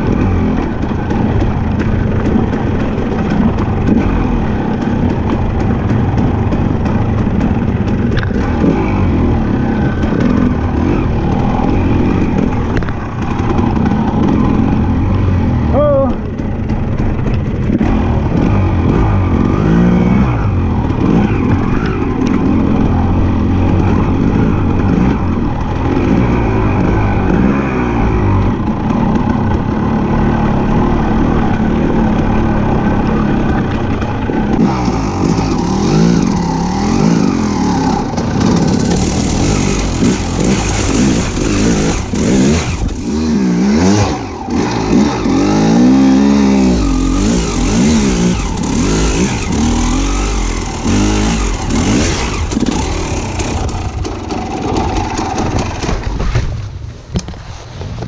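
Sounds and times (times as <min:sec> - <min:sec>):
vehicle engine revving: 0:00.0 - 0:56.1.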